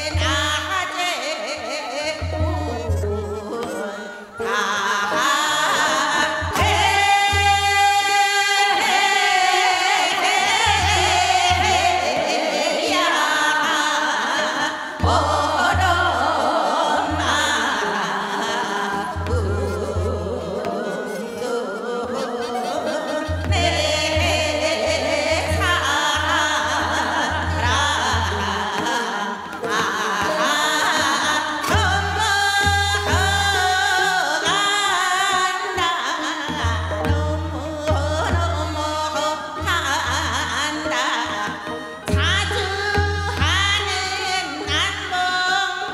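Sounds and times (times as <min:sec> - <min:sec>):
instrumental accompaniment: 0:00.0 - 0:45.9
woman singing with vibrato: 0:00.0 - 0:45.9.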